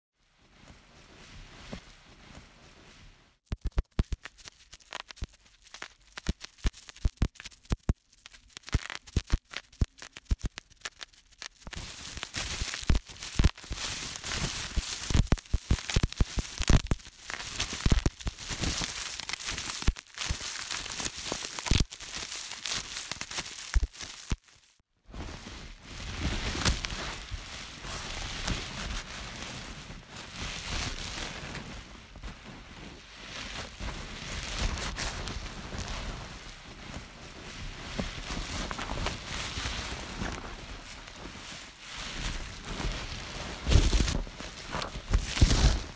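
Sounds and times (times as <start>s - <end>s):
bubble wrap popping: 3.5s - 24.8s, 25.6s - 45.9s
plastic crinkling: 3.5s - 24.8s, 25.9s - 45.9s.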